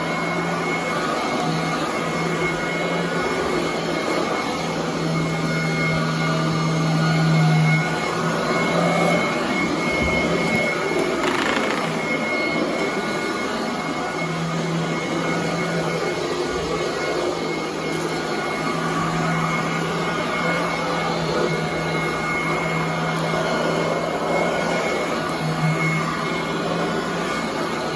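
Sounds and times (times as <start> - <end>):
vacuum cleaner running on carpet: 0.0 - 27.9.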